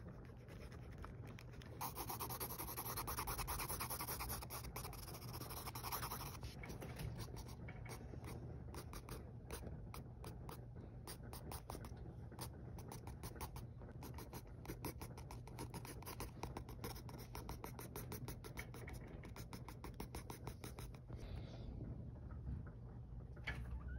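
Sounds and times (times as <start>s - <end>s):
pencil scratching on paper: 0.0s - 7.6s, 8.2s - 11.9s, 12.8s - 21.0s.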